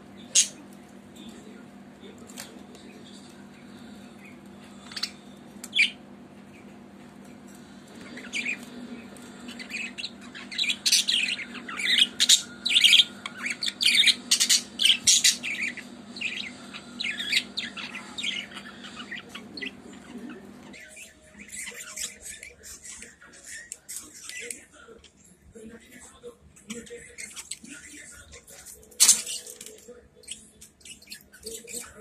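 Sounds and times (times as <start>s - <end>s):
budgerigars chirping and chattering: 0.2s - 0.6s, 2.1s - 6.8s, 7.9s - 24.8s, 25.8s - 32.0s.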